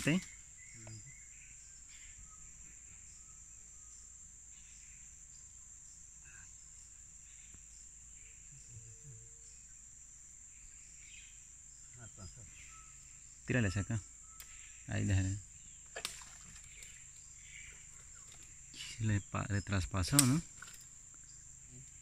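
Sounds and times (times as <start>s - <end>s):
soft chirps: 0.0s - 22.0s.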